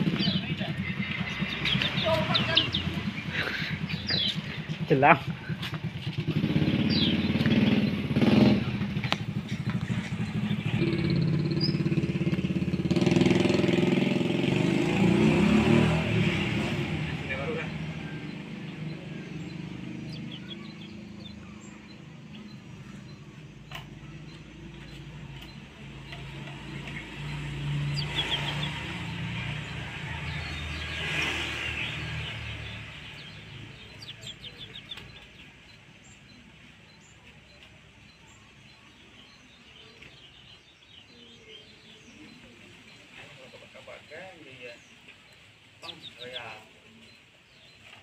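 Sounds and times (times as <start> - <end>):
birds chirping and trilling: 0.0 - 48.0
passing vehicle rumble: 0.0 - 48.0.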